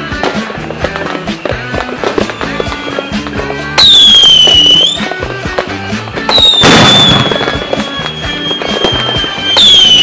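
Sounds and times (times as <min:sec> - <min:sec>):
background music: 0:00.0 - 0:10.0
crackling firework burst: 0:00.0 - 0:10.0
whistling firework rocket: 0:00.6 - 0:05.2, 0:06.3 - 0:10.0.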